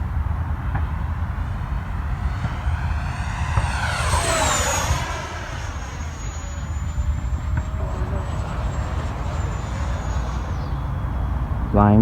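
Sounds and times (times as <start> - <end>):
model jet fan whining: 0.0 - 12.0
steady low rumble: 0.0 - 12.0.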